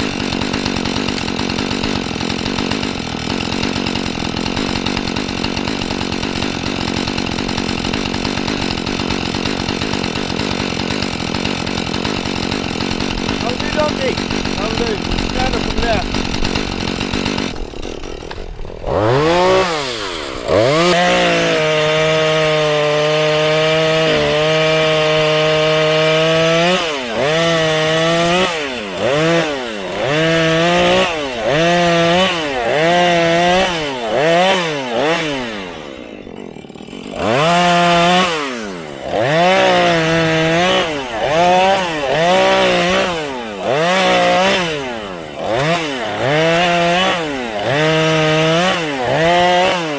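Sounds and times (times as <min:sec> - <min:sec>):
chainsaw revving: 0:00.0 - 0:49.9.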